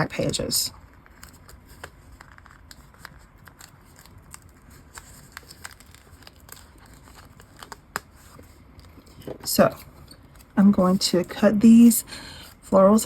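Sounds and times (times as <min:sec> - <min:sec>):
paper sticker sheet rustling: 0:00.0 - 0:13.0.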